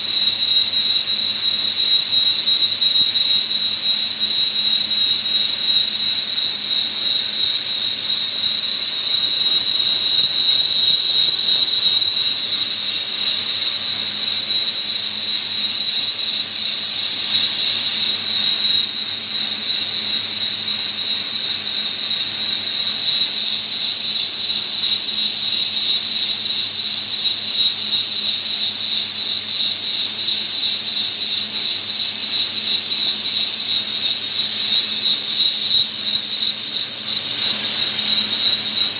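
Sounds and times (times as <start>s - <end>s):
lathe high-pitched squeal: 0.0s - 38.9s.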